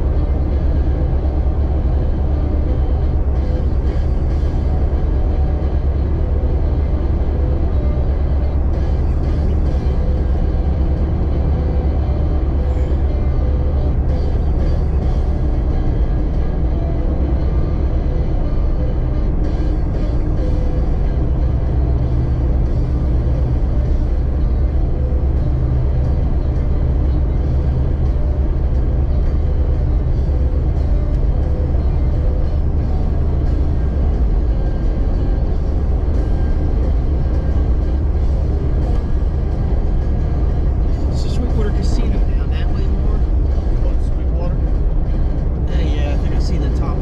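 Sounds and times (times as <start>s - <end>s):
music playing: 0.0s - 47.0s
vehicle engine rumble: 0.0s - 47.0s.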